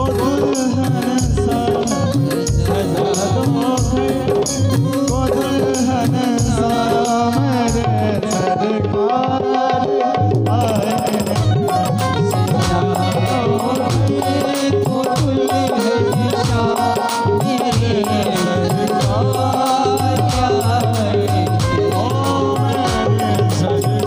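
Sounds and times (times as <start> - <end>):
steady percussion beat: 0.0 - 8.7, 10.3 - 24.0
electronic keyboard melody: 0.0 - 24.0
tabla: 0.0 - 24.0.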